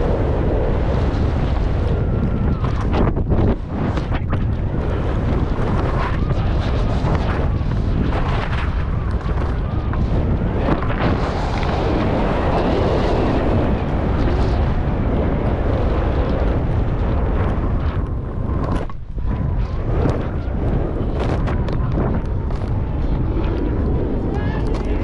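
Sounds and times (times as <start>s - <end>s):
skis scraping over snow: 0.0s - 25.0s
wind buffeting microphone: 0.0s - 25.0s.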